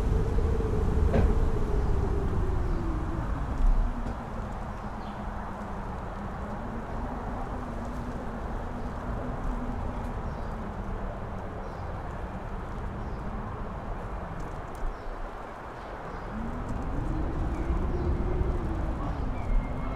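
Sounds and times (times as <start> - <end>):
howling wind tone: 0.0 - 19.9
strong wind rushing: 0.0 - 19.9
wind buffeting microphone: 0.0 - 19.9.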